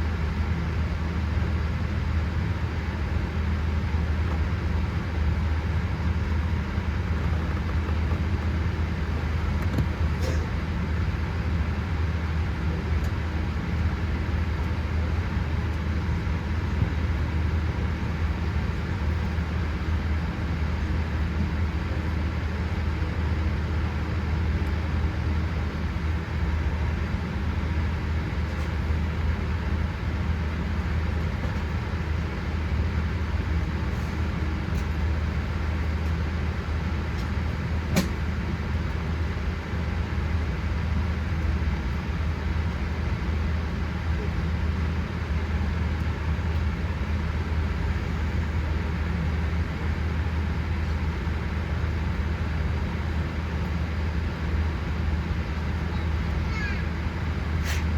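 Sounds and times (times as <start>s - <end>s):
airliner cabin hum: 0.0s - 57.9s.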